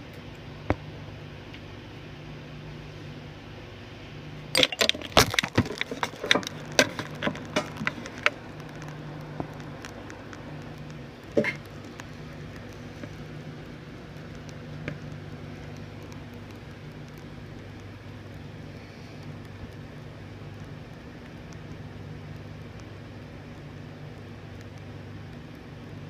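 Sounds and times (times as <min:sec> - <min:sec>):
steady low hum: 0:00.0 - 0:26.0
small clicks and taps: 0:04.6 - 0:25.9.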